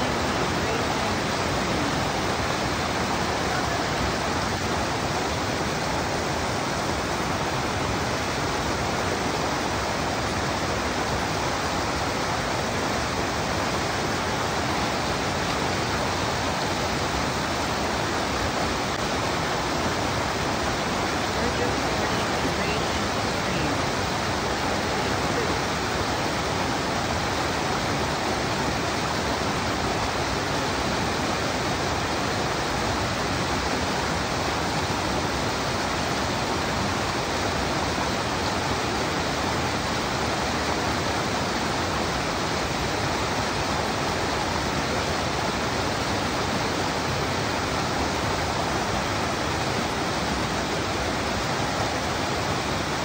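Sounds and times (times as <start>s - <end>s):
stream rushing over boulders: 0.0s - 53.0s.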